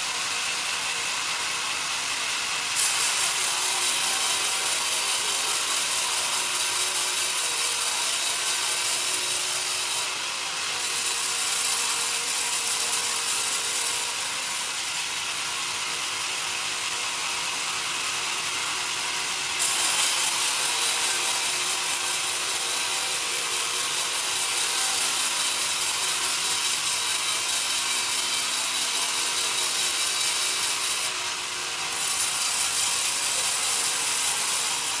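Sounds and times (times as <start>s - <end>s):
band saw cutting wood: 0.0s - 35.0s.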